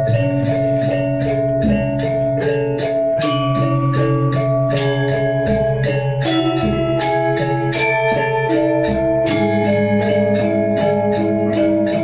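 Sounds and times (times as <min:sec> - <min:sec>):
gamelan metallophone playing: 0:00.0 - 0:12.0.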